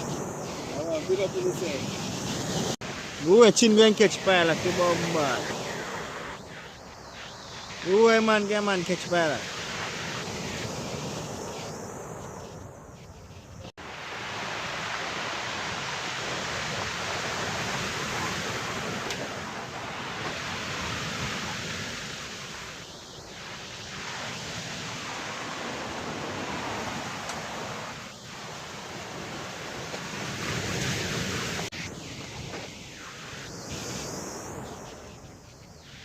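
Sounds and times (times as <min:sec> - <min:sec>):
sea surf rushing: 0:00.0 - 0:36.0.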